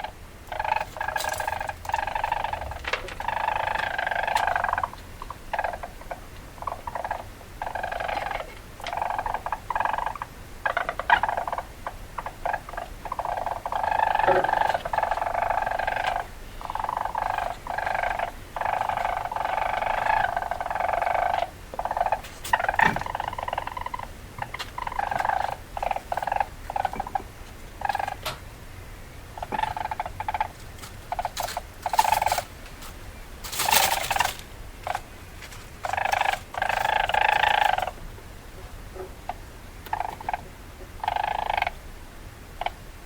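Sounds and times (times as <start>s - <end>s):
weasel chattering: 0.0s - 28.4s, 29.4s - 38.0s, 39.0s - 41.8s.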